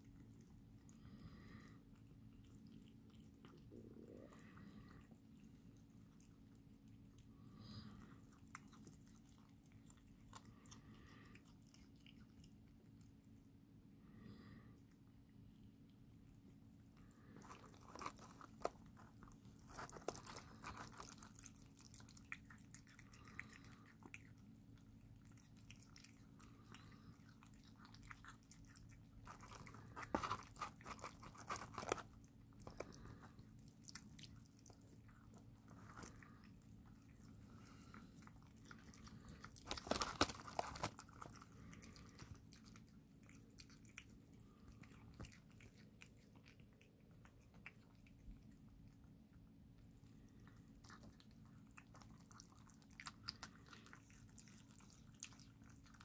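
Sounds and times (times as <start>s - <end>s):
kittens chewing: 0.0s - 56.0s.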